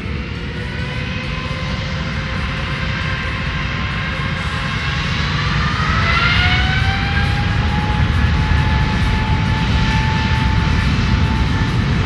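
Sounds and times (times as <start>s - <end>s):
jet engine whine: 0.0s - 12.0s
loud low jet rumble: 0.0s - 12.0s.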